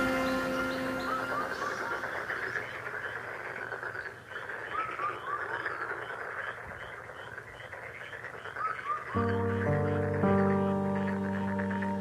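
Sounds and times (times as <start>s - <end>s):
repeated higher frog notes: 0.0s - 5.8s, 6.7s - 12.0s
frogs calling: 0.0s - 12.0s.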